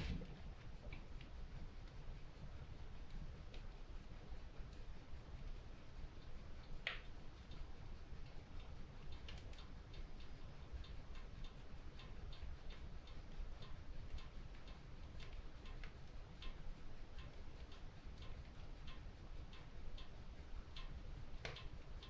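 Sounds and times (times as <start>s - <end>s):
fire crackling and popping: 0.0s - 22.0s
low steady rumble: 0.0s - 22.0s.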